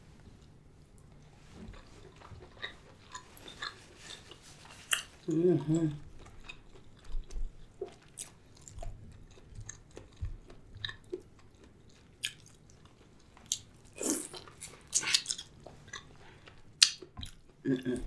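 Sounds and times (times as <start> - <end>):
chewing corn on the cob: 1.2 - 17.7.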